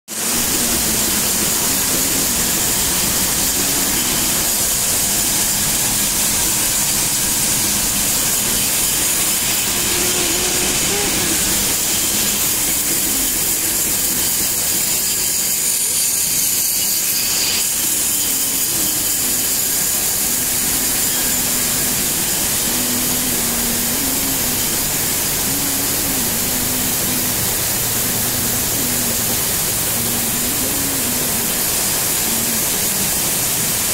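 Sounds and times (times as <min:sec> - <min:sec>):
roasting machine hiss and rumble: 0:00.1 - 0:33.9.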